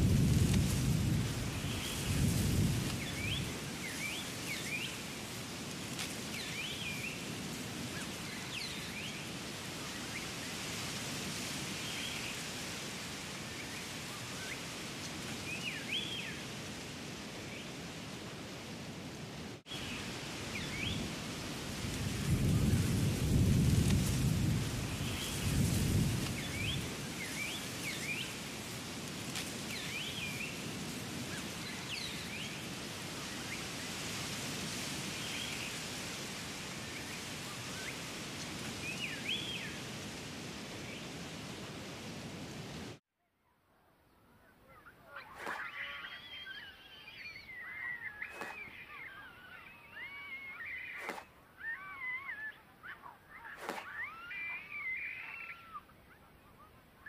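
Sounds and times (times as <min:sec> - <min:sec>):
rain-like hiss: 0:00.0 - 0:43.0, 0:45.0 - 0:52.3.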